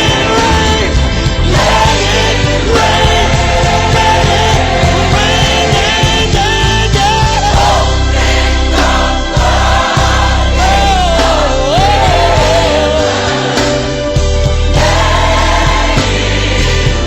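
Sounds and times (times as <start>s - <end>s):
gospel choir singing with band: 0.0s - 17.0s.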